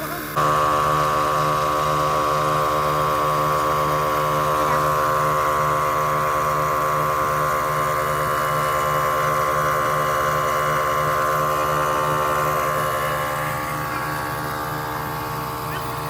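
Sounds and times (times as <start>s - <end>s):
mechanical drone with high whine: 0.0s - 16.0s.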